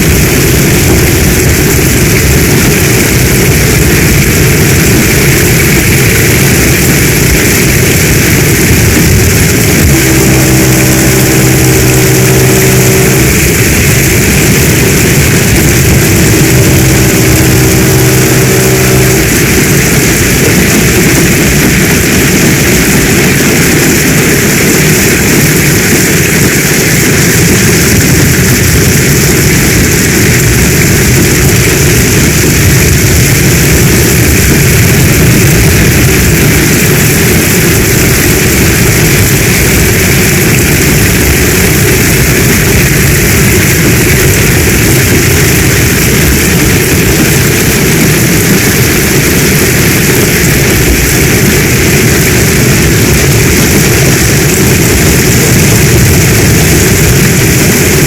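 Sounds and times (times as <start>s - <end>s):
heavy rain falling: 0.0s - 58.0s
low rumble: 0.0s - 58.0s.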